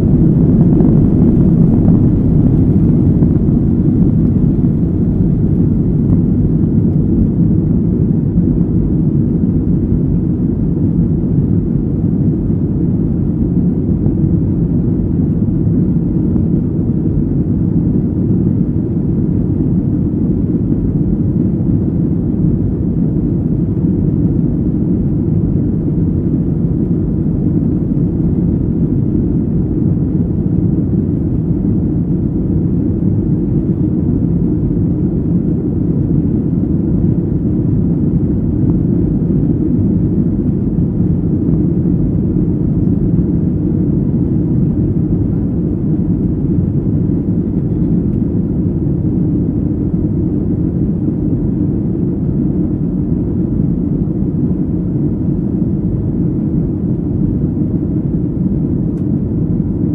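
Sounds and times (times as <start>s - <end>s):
jet engines low rumble: 0.0s - 59.9s.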